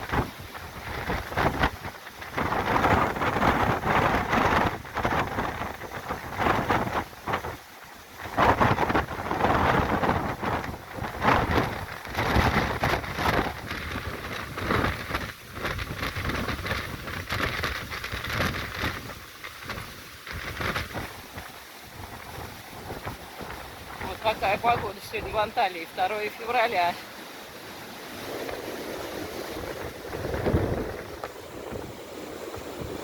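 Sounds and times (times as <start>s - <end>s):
heavy rain: 0.0s - 33.0s
wind gusting on microphone: 0.0s - 33.0s.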